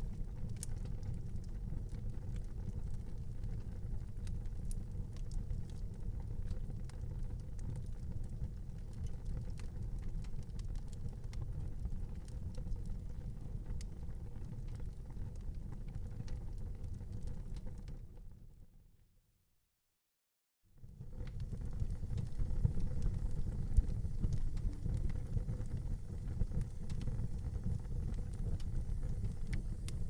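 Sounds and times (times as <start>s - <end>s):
wood fire crackling: 0.0s - 18.2s, 20.8s - 30.0s.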